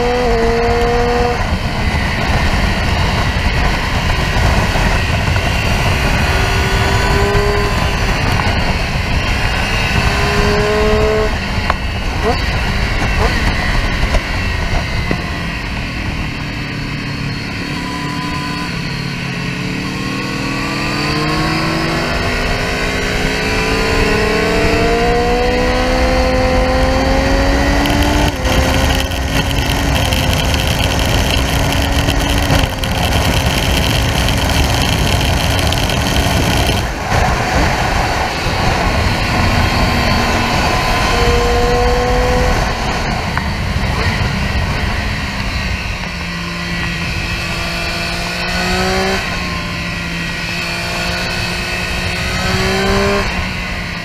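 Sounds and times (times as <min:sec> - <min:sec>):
wind on microphone: 0:00.0 - 0:16.6, 0:21.6 - 0:53.9
motorcycle engine accelerating: 0:00.0 - 0:54.0.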